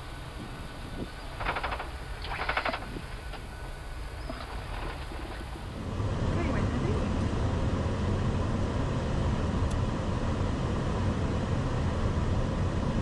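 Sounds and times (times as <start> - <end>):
air-conditioning hum: 0.0 - 13.0
airflow rush in cockpit: 0.0 - 13.0.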